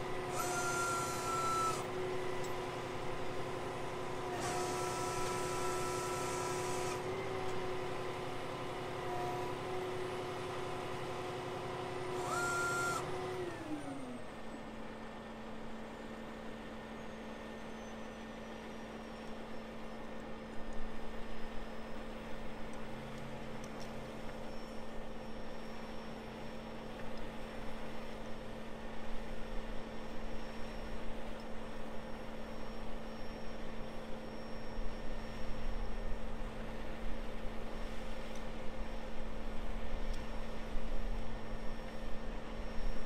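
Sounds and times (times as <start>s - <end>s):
faint high whine: 0.0s - 43.0s.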